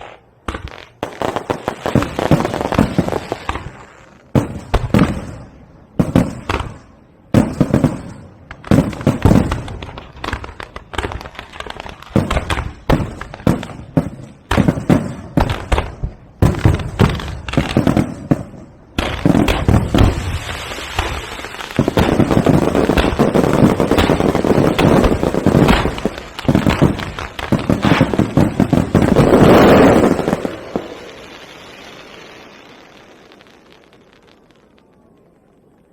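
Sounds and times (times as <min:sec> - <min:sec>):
fireworks bangs: 0:00.0 - 0:35.4
fireworks crackling barrage: 0:00.0 - 0:35.9.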